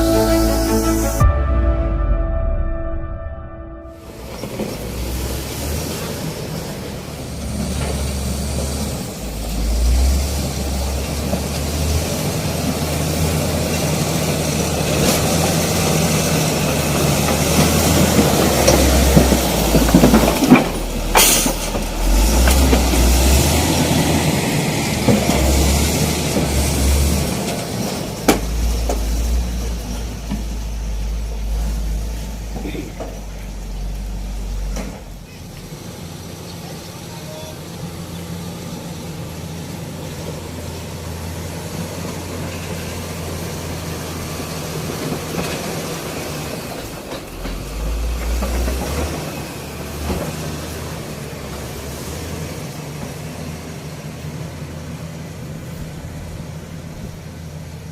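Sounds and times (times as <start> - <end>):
heavy machinery diesel engines: 0.0 - 1.6, 3.9 - 57.9.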